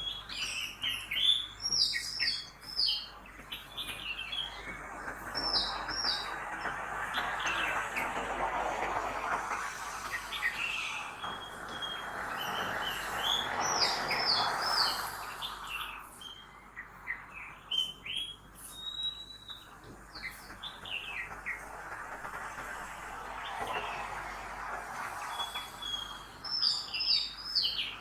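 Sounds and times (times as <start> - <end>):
traffic noise: 3.3 - 17.6, 19.8 - 28.0.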